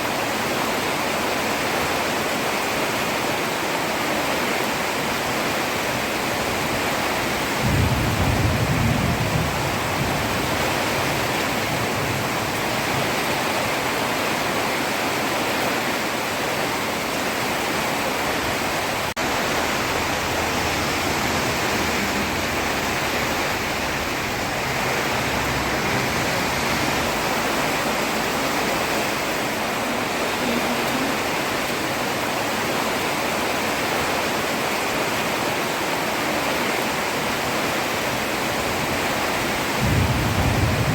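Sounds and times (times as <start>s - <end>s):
heavy rain on road: 0.0s - 40.9s.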